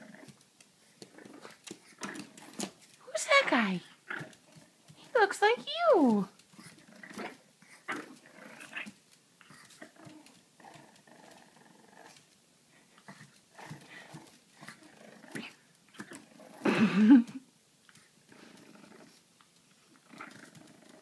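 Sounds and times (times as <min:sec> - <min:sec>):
puppy growling and grunting: 0:00.0 - 0:00.4, 0:01.0 - 0:04.8, 0:06.6 - 0:12.3, 0:13.0 - 0:17.4, 0:18.3 - 0:21.0.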